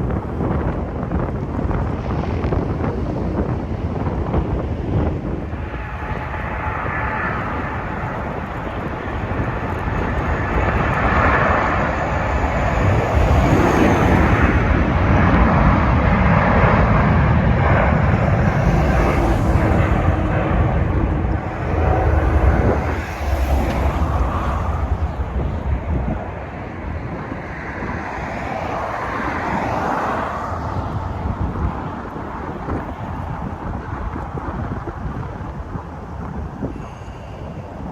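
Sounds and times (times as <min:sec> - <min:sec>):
jet engines roaring: 0:00.0 - 0:37.9
wind buffeting microphone: 0:00.0 - 0:37.9.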